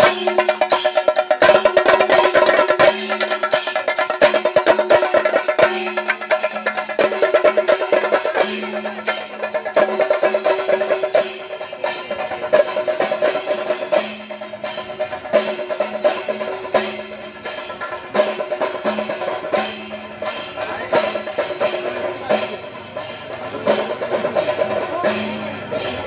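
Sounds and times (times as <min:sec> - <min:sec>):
fast ensemble drumming: 0:00.0 - 0:26.0.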